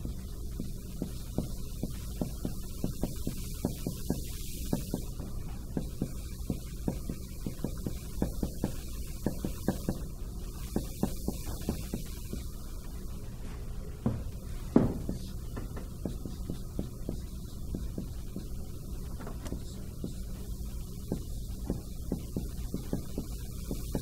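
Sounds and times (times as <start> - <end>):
marker writing on whiteboard: 0.0 - 12.6, 13.5 - 24.0
steady low hum: 0.0 - 24.0.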